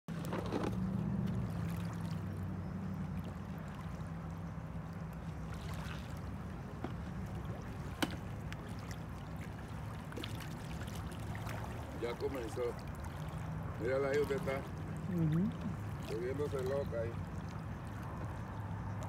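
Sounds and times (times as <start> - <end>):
light water splashing: 0.1 - 19.0.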